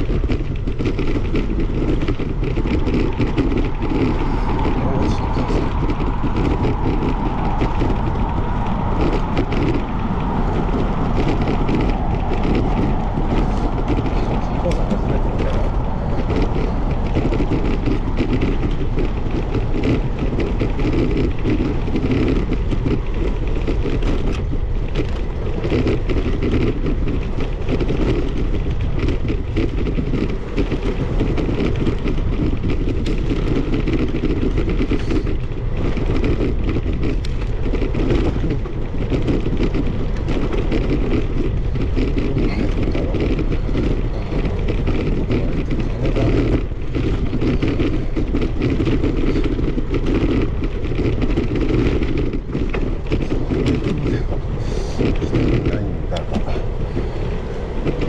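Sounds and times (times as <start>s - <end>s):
bicycle road noise: 0.0s - 58.0s
wind buffeting microphone: 0.0s - 58.0s.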